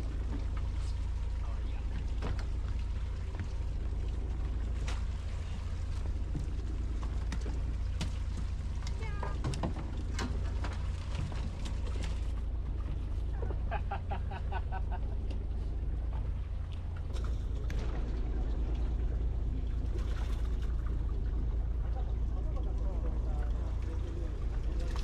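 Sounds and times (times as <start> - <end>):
low boat rumble: 0.0 - 25.0.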